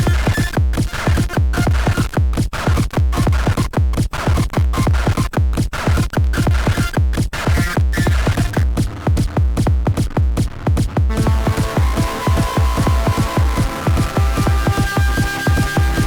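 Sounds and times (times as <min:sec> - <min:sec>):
electronic dance music: 0:02.7 - 0:16.0.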